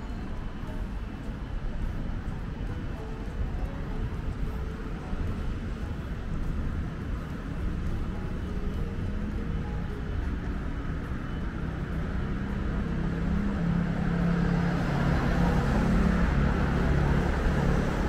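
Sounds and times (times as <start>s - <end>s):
cars passing: 0.0s - 18.0s
low engine hum: 0.0s - 18.0s.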